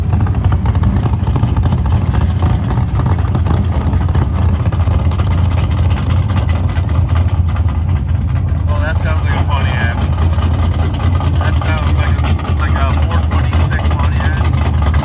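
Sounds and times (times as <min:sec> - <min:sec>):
loud car engine running: 0:00.0 - 0:15.0.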